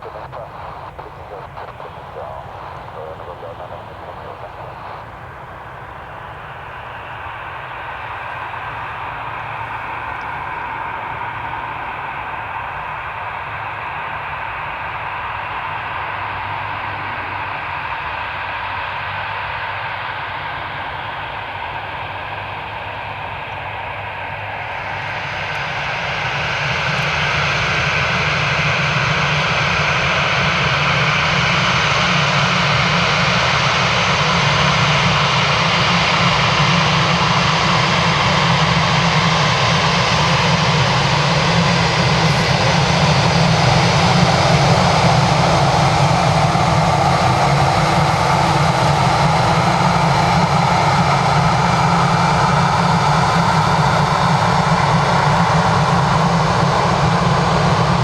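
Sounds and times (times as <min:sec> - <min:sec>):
jet engines spooling up: 0:00.0 - 0:18.3, 0:21.1 - 0:58.0.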